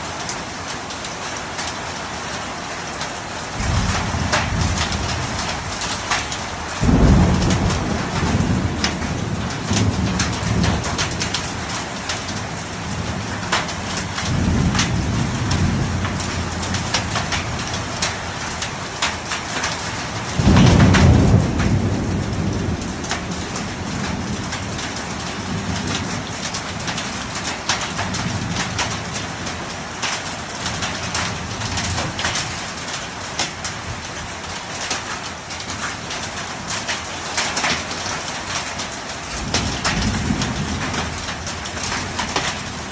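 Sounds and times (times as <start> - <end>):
hailstones hitting: 0.0 - 42.9
hiss of falling rain: 0.0 - 42.9
thunder rumble: 3.4 - 42.9.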